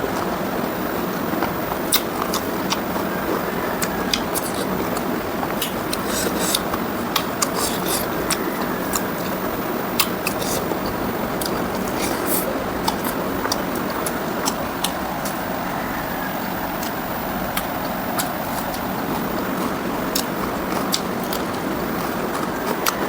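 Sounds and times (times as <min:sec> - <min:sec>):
wet chewing and biting: 0:01.4 - 0:15.6, 0:16.7 - 0:23.0.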